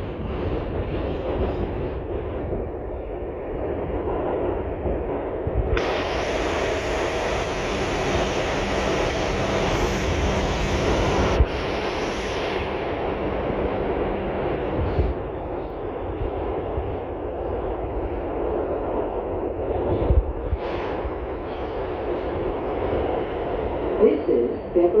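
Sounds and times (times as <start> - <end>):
subway car rumble and wheel noise: 0.0 - 25.0.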